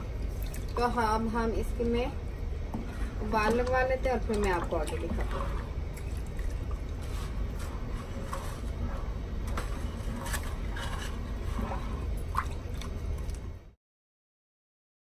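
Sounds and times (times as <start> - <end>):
liquid sloshing in a pot: 0.0 - 13.8.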